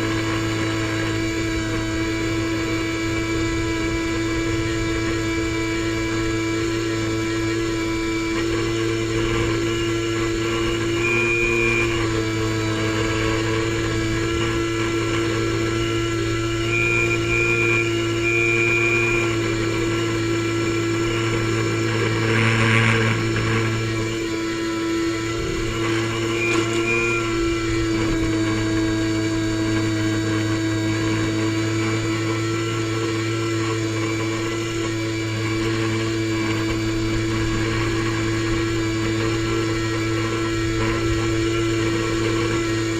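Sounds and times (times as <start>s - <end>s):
airboat engine and propeller drone: 0.0s - 42.9s.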